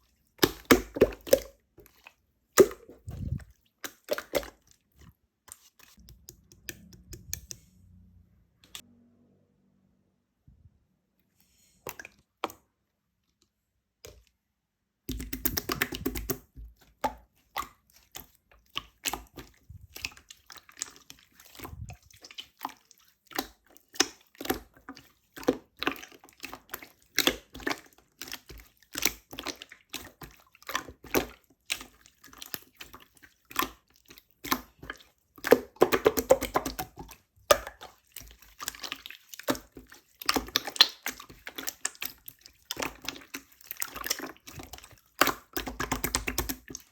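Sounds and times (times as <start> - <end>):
slime squelching and popping: 0.1 - 7.6, 15.1 - 46.9.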